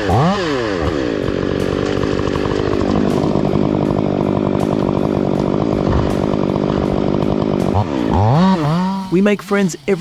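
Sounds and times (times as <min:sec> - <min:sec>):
chainsaw running: 0:00.0 - 0:10.0.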